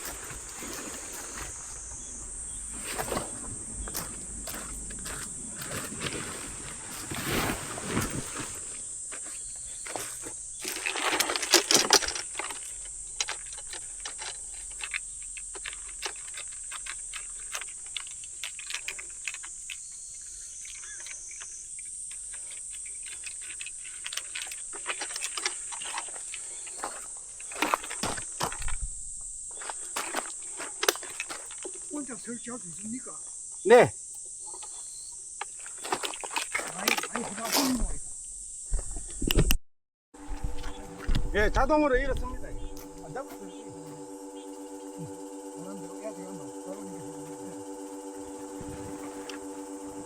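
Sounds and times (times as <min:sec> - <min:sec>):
insects chirring: 0:00.0 - 0:39.6, 0:40.2 - 0:50.0.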